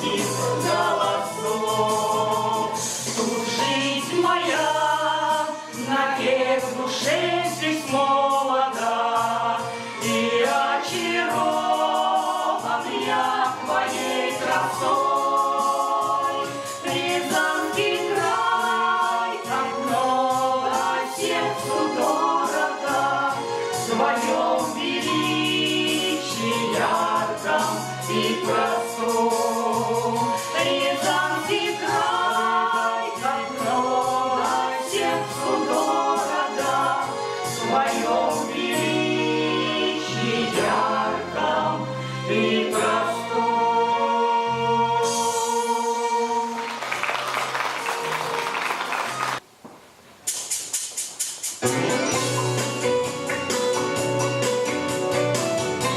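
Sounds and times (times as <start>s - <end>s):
folk ensemble singing: 0.0s - 49.4s
instrumental accompaniment: 0.0s - 49.4s, 50.3s - 55.9s.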